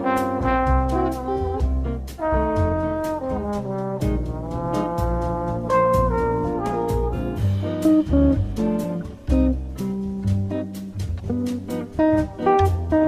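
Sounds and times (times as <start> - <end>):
brass horns playing melody: 0.0 - 9.6, 12.0 - 13.0
bass notes: 0.0 - 13.0
steady drum beat: 0.0 - 13.0.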